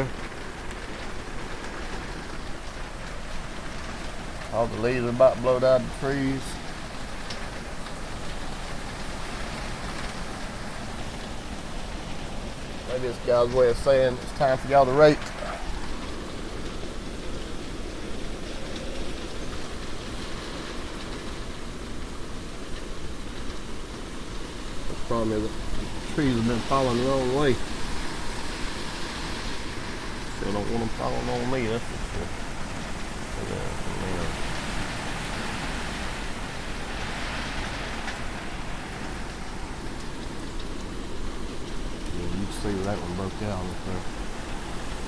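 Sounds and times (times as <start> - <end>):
heavy rain: 0.0 - 45.0
hurricane wind: 0.0 - 45.0.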